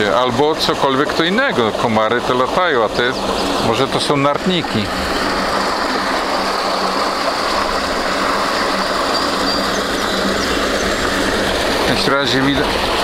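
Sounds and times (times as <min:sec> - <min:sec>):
water rushing through outlet: 0:00.0 - 0:13.0.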